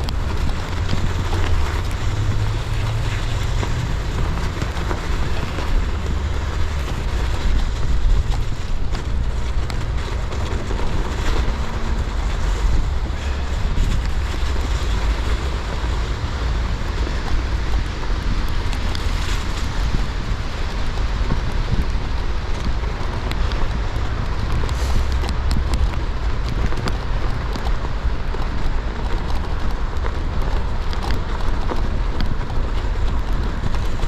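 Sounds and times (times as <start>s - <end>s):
bike tyres hissing over snow: 0.0s - 34.0s
wind rumbling on microphone: 0.0s - 34.0s.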